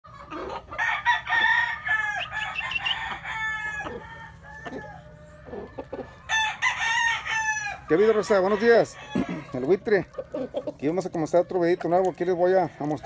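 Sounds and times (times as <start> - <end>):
roosters crowing: 0.1 - 13.0.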